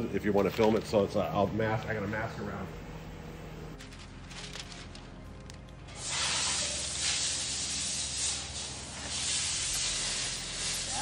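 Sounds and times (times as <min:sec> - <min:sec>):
masking paper and tape rustling: 0:00.2 - 0:02.1, 0:03.8 - 0:11.0.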